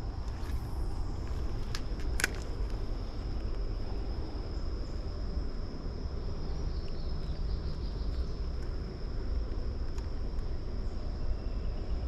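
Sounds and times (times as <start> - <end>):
high-pitched insect drone: 0.0 - 12.0
low wind rumble: 0.0 - 12.0.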